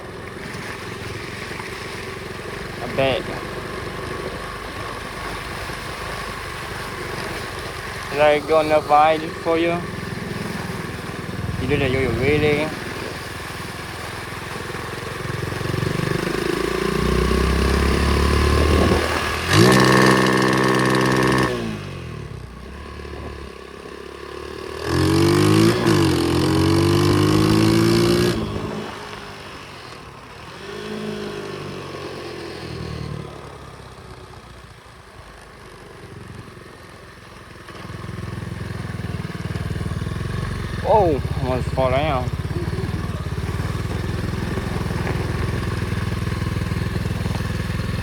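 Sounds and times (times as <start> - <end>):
pit bike engine revving: 0.0 - 33.7, 37.6 - 48.0.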